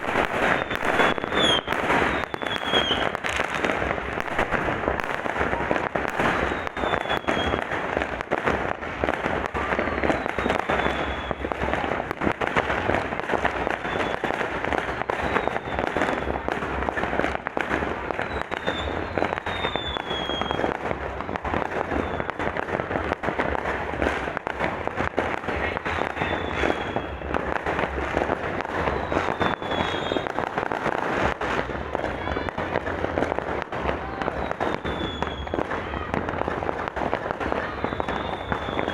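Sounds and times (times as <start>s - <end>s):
fireworks falling whistles: 0.0s - 38.9s
fireworks popping and crackling: 0.0s - 38.9s.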